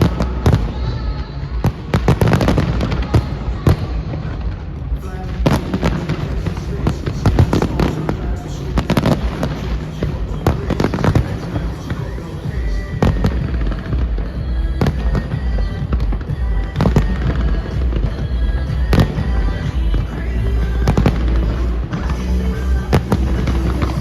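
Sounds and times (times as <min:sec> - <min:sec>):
fireworks exploding: 0:00.0 - 0:24.0
loud music with heavy bass: 0:00.0 - 0:24.0.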